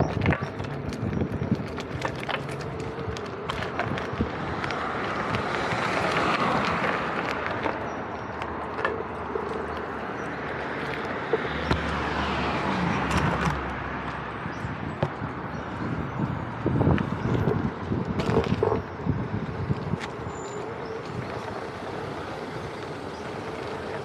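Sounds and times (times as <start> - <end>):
road noise: 0.0 - 24.0
rushing wind: 0.0 - 24.0.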